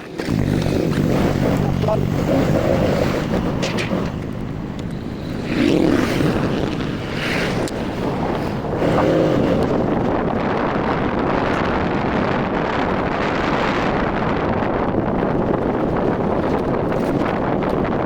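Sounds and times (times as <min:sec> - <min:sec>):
vehicle noise: 0:00.0 - 0:18.0
wind buffeting microphone: 0:00.0 - 0:18.0.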